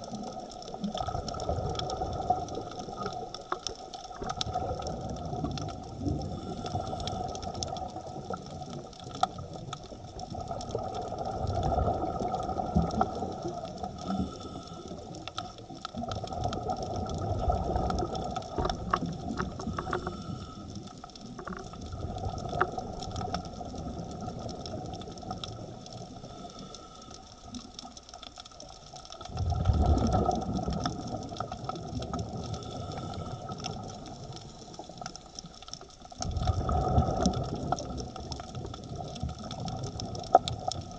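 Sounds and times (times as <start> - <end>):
regulator bubbles rushing: 0.0 - 26.8, 27.4 - 40.9
muffled underwater noise: 0.0 - 40.9.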